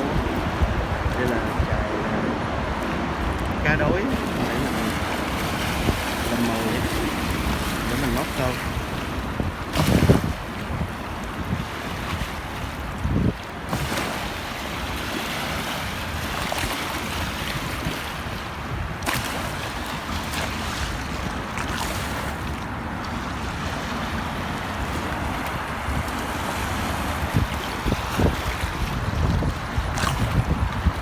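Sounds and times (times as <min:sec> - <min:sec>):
wind blowing across microphone: 0:00.0 - 0:31.0.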